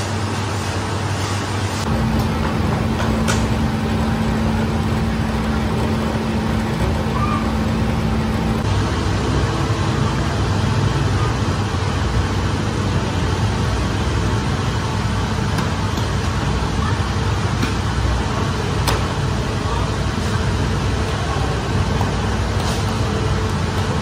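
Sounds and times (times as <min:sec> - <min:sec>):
bakery machinery drone: 0:00.0 - 0:24.0.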